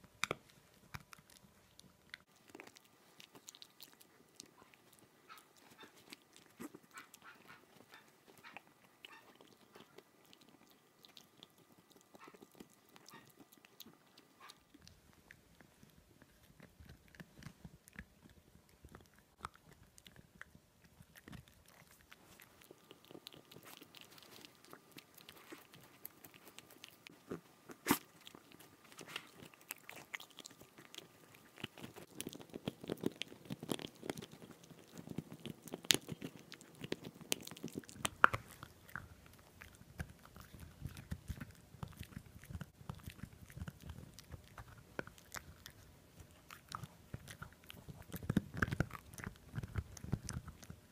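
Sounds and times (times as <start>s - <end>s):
dog teeth crunching on bone: 0.0s - 50.9s.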